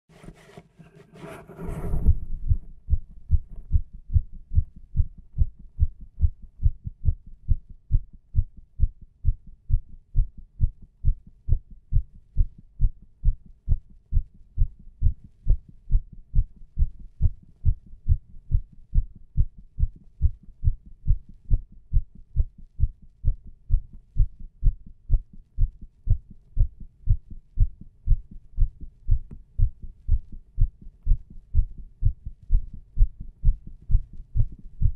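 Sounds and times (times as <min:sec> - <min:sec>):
heartbeat through stethoscope: 0:01.9 - 0:34.9.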